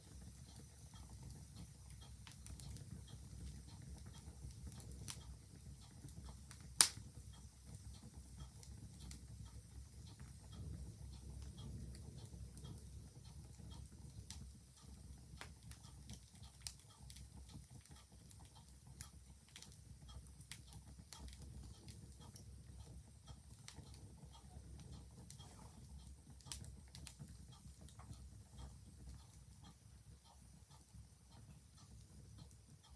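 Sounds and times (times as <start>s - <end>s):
mechanical clock ticking: 0.0s - 32.9s
wood fire crackling: 0.0s - 32.9s.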